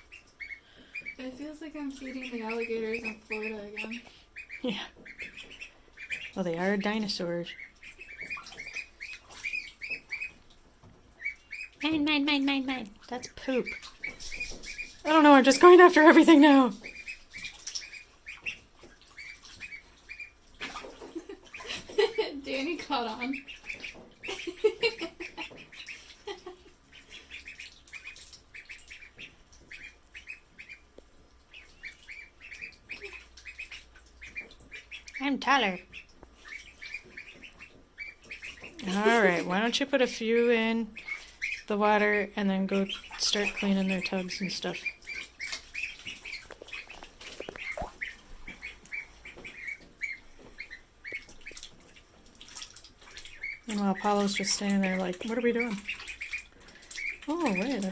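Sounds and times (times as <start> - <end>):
ducklings peeping: 0.0 - 57.9.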